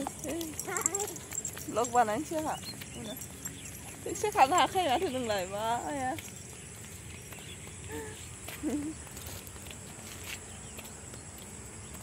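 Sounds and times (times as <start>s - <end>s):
light footsteps: 0.0s - 12.0s.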